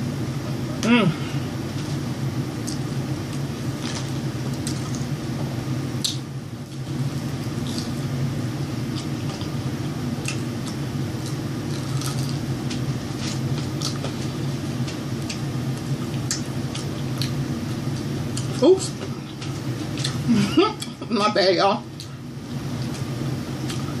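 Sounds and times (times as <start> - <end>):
person chewing food: 1.7 - 8.2, 8.8 - 21.0, 21.9 - 24.0.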